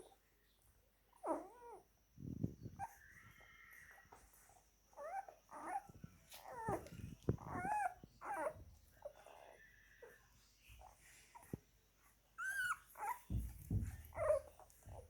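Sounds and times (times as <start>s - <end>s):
puppies whining and squeaking: 0.0s - 0.2s, 1.1s - 15.0s.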